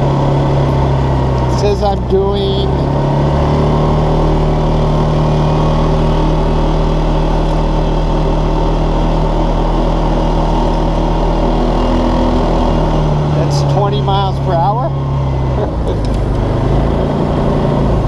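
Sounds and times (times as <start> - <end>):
single-cylinder engine running: 0.0 - 18.0.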